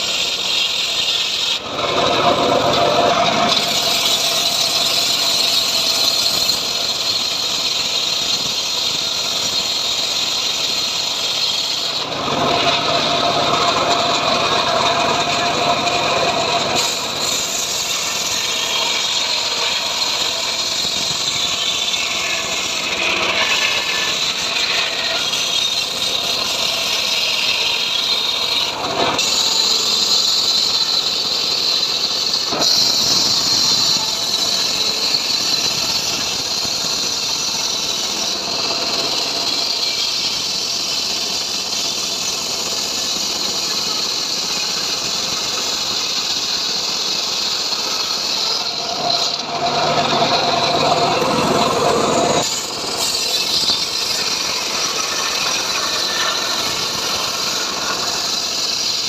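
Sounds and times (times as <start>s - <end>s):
blade hissing through timber: 0.0s - 59.0s
sawmill machine drone: 0.0s - 59.0s.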